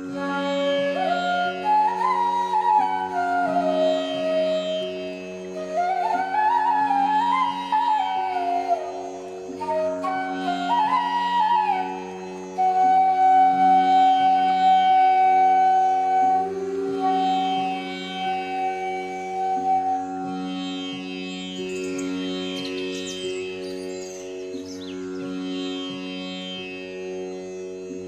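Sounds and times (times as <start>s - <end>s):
flute melody: 0.0s - 27.2s.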